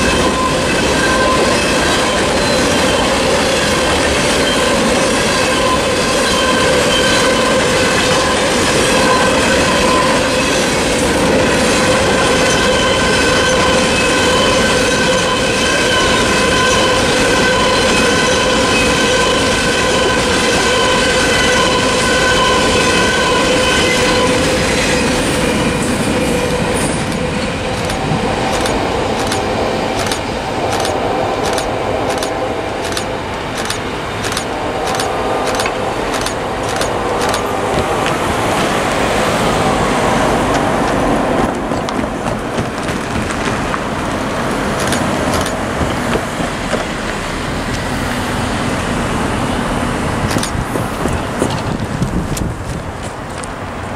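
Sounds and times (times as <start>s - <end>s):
freight train car rumbling: 0.0s - 53.9s.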